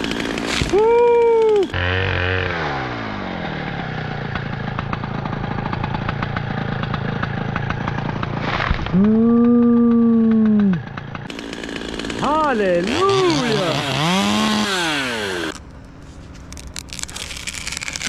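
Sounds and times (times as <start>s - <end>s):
chainsaw revving and idling: 0.0s - 15.9s, 16.5s - 18.0s.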